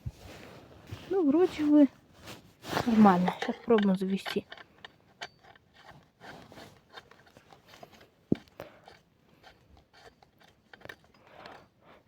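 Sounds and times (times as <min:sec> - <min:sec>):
light clicks and rustles: 0:00.0 - 0:12.0.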